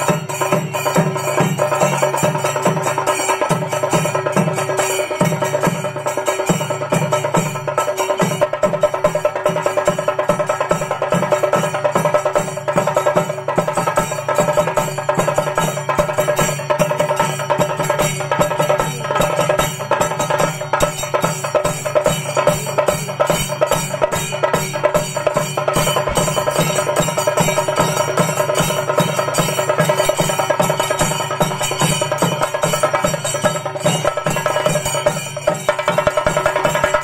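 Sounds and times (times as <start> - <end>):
drums beaten with sticks: 0.0 - 37.0
hand cymbals clashing: 0.0 - 37.0.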